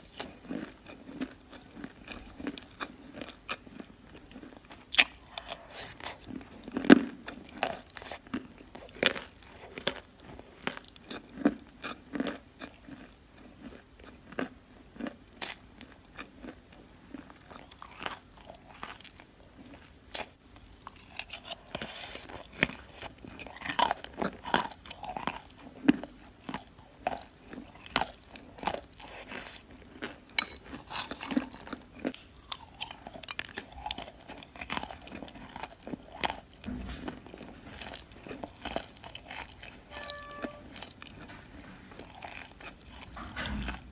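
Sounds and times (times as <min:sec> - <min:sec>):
wet clay being chewed: 0:00.0 - 0:36.7, 0:37.3 - 0:43.9.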